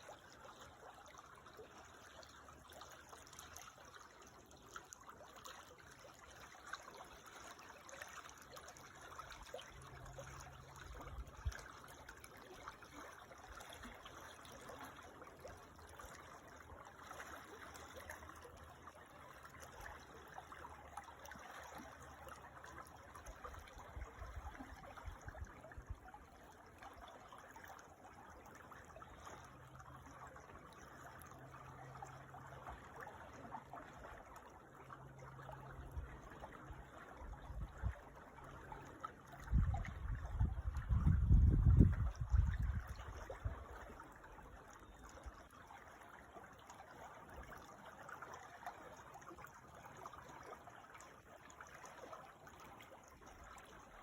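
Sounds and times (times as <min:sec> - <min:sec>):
creek water trickling: 0:00.0 - 0:54.0.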